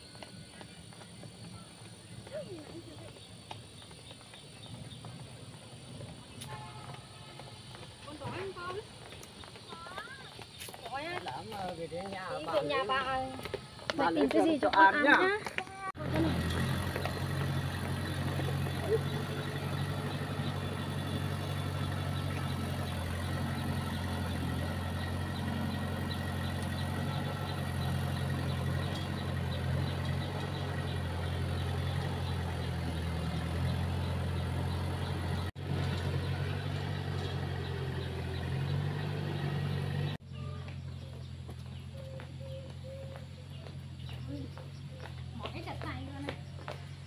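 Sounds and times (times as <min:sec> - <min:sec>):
engine running steadily: 0:00.0 - 0:47.0.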